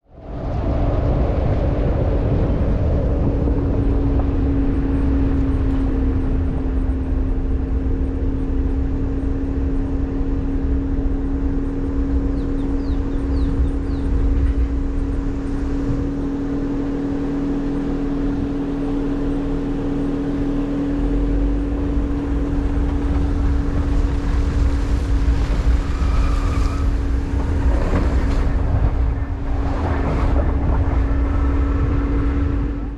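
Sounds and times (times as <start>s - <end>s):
uneven low rumble: 0.0s - 32.9s
car engine humming: 1.2s - 32.9s.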